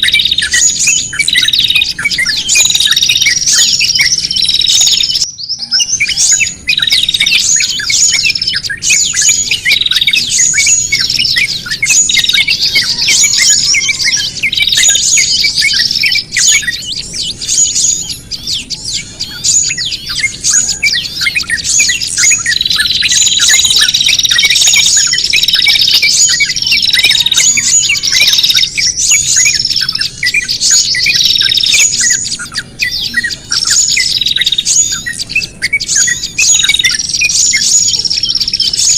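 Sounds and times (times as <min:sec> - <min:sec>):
small songbirds chirping and squawking: 0:00.0 - 0:38.9.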